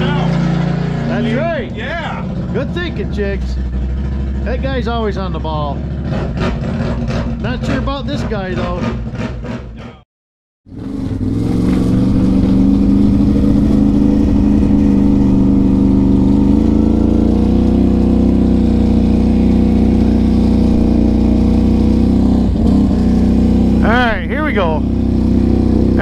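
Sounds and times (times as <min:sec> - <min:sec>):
atv engine running: 0:00.0 - 0:10.0, 0:10.7 - 0:26.0.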